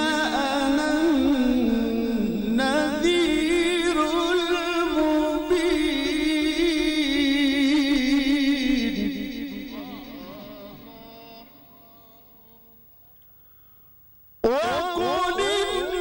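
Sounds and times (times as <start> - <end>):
man reciting melodically through microphone: 0.0 - 13.0, 14.4 - 16.0.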